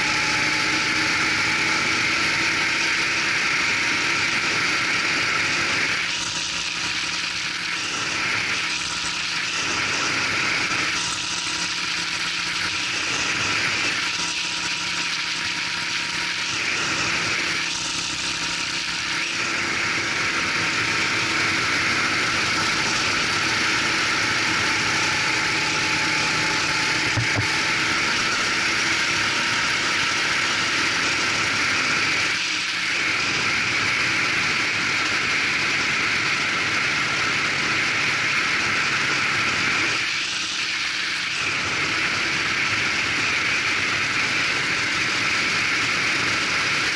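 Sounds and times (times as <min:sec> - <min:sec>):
kart engine running: 0:00.0 - 0:46.9.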